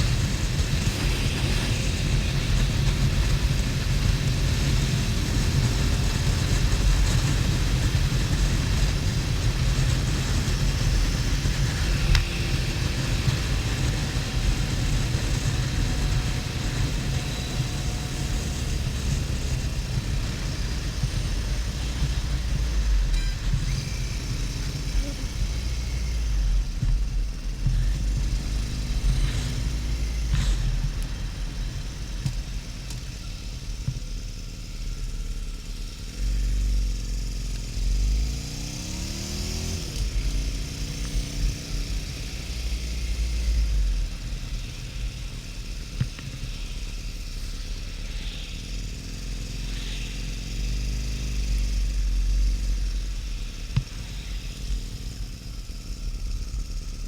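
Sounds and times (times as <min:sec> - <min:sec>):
motorcycle engine at road speed: 0:00.0 - 0:57.0.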